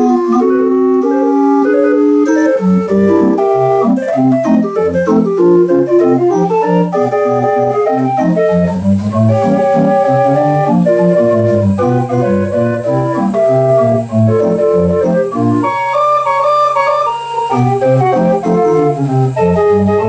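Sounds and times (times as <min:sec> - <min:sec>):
pipe organ playing ragtime: 0:00.0 - 0:20.0.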